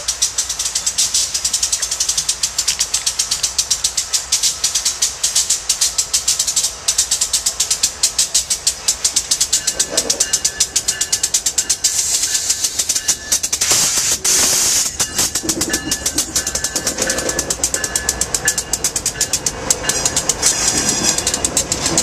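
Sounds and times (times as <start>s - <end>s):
freight train rolling past: 0.0s - 22.0s
rapid high-pitched clicking: 0.0s - 22.0s.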